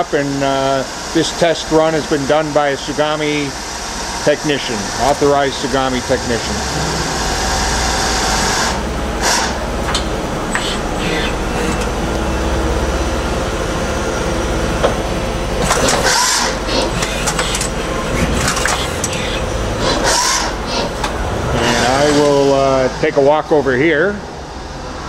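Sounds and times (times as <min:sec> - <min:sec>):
lathe mechanical hum: 0:00.0 - 0:25.0.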